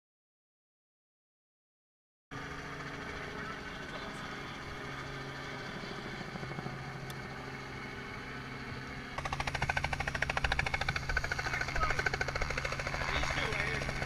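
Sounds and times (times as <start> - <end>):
helicopter engine and rotor: 2.3 - 14.0.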